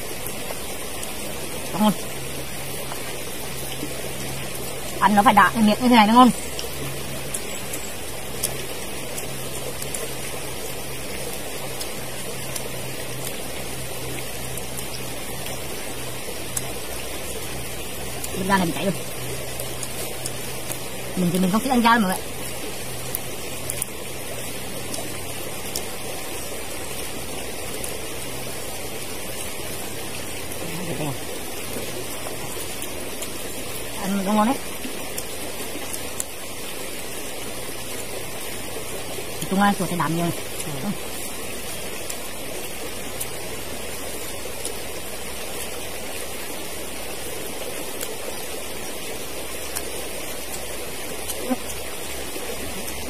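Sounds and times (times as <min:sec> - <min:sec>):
stream water running: 0:00.0 - 0:53.0.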